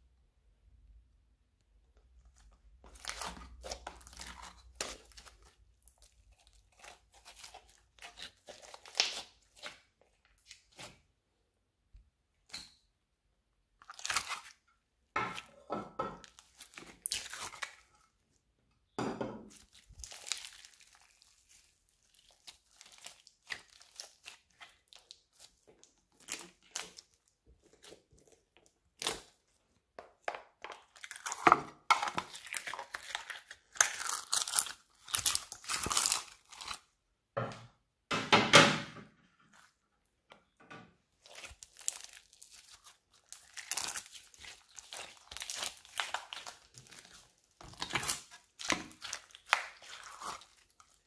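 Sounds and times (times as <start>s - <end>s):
sticky slime squishing: 1.4s - 37.0s, 39.5s - 51.0s.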